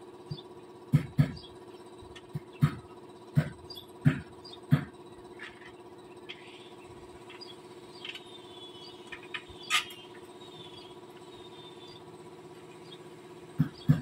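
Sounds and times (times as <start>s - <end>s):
air compressor humming: 0.0s - 14.0s.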